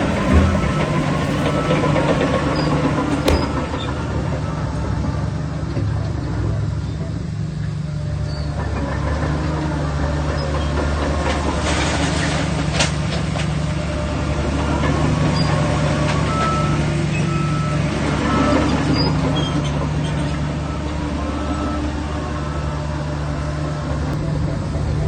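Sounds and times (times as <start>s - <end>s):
diesel earthmoving machinery running: 0.0s - 25.0s.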